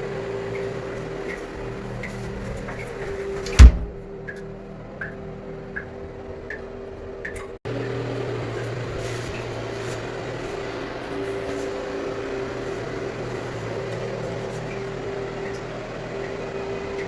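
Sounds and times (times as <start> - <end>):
machine hum with tones: 0.0 - 17.0.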